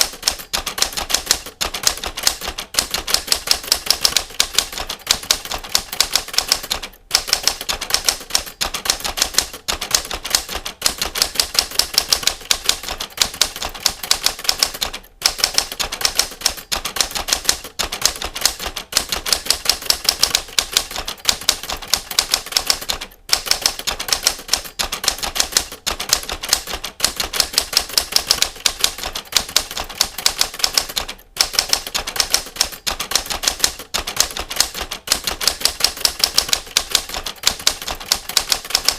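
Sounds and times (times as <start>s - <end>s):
typewriter keys clattering: 0.0s - 38.9s.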